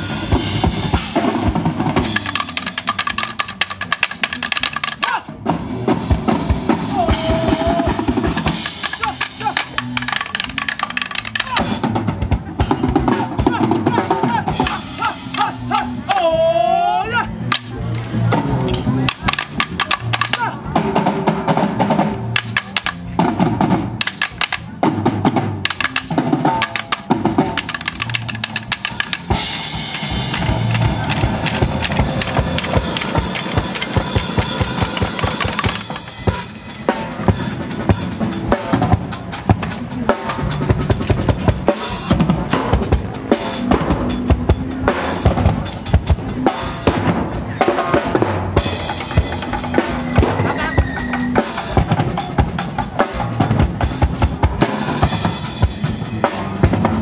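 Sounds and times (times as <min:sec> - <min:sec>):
percussion ensemble drumming: 0:00.0 - 0:16.3, 0:18.3 - 0:57.0.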